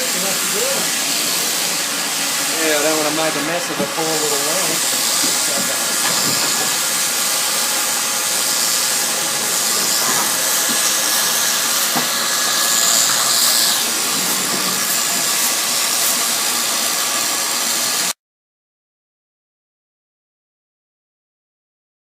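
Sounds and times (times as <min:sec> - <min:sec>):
electric shears cutting wool: 0:00.0 - 0:18.2.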